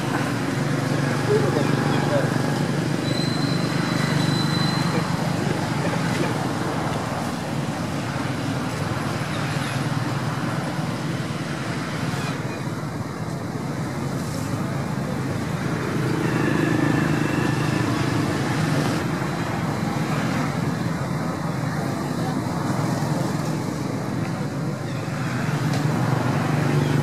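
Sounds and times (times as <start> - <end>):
road traffic noise: 0.0 - 27.0.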